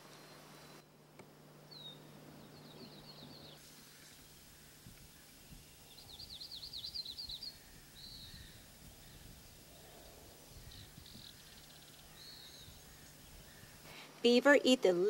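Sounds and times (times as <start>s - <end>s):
songbirds calling: 1.6s - 13.9s.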